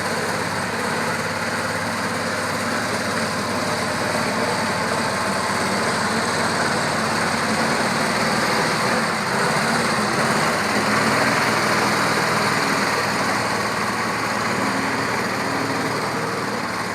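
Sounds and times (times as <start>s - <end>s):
skid steer engine running: 0.0s - 16.9s.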